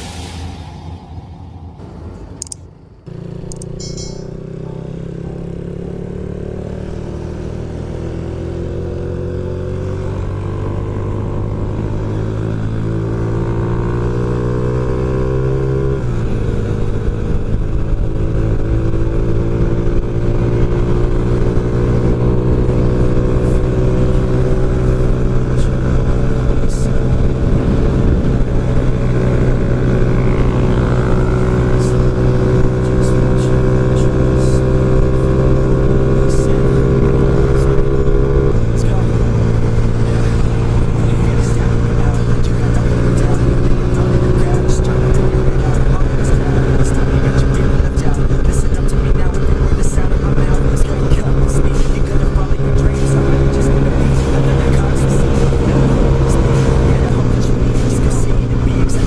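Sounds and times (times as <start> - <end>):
two-stroke motorcycle engine: 3.0 - 59.0.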